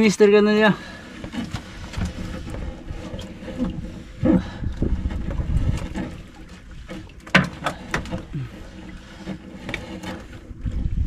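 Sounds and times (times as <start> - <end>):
sea water sloshing and splashing: 0.7 - 11.0.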